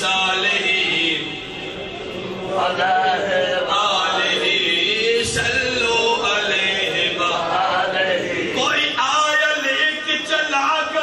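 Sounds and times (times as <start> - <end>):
man chanting: 0.0 - 1.6, 2.5 - 11.0.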